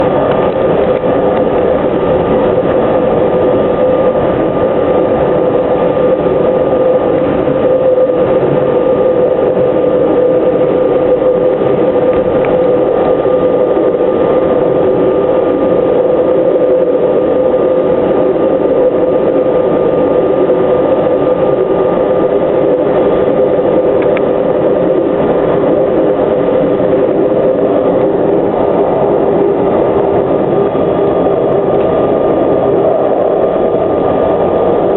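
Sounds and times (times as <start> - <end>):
electric train running rumble: 0.0 - 34.9
steady humming tones: 0.0 - 34.9.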